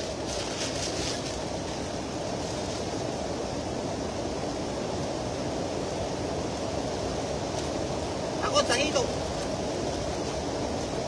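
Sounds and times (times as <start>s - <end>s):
fast-flowing river water rushing: 0.0s - 11.0s.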